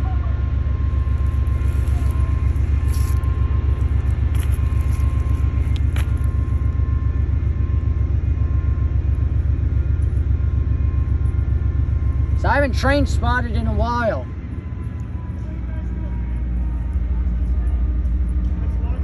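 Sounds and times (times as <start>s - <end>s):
diesel locomotive idling: 0.0s - 19.0s.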